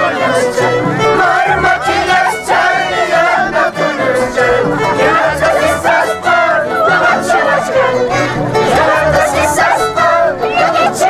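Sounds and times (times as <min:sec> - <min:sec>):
violin: 0:00.0 - 0:11.0
voices singing: 0:00.0 - 0:11.0.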